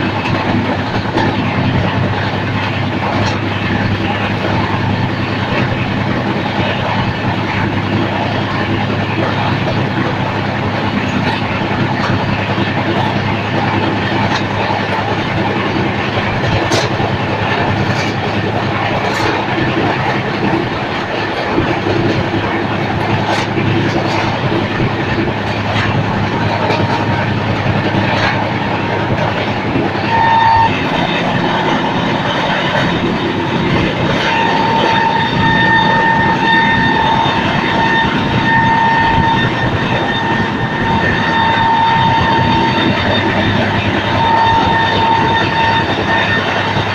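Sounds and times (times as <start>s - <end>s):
train wheels rumbling on rail: 0.0s - 46.9s
wheels clicking over rail joints: 0.0s - 46.9s.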